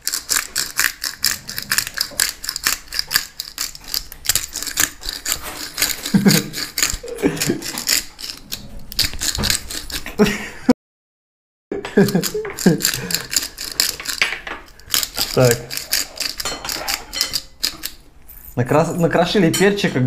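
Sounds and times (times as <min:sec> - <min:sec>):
pepper grinder crackling: 0:00.0 - 0:10.3, 0:11.9 - 0:18.6.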